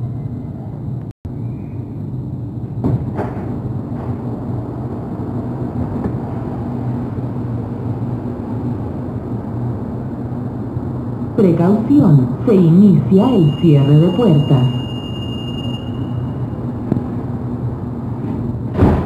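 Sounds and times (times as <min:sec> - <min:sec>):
metro car low hum: 0:00.0 - 0:19.0.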